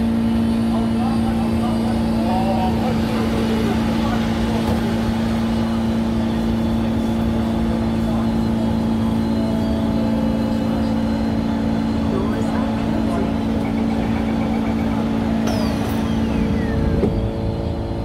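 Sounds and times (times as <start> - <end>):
train running with steady rumble: 0.0 - 18.0.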